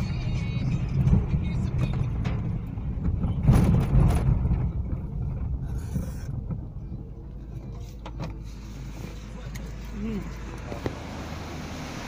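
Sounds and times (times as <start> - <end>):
vehicle rumble on wet road: 0.0 - 12.0.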